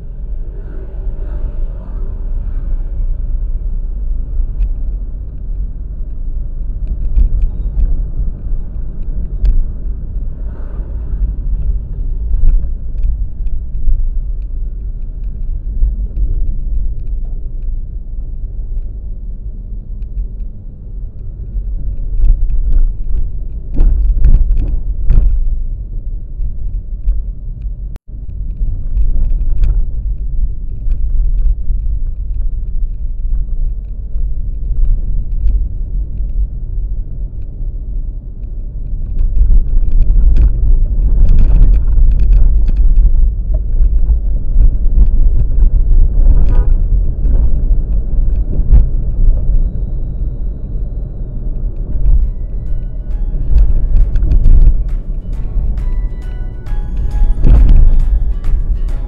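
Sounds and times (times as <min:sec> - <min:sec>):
vehicle road rumble: 0:00.0 - 0:59.0.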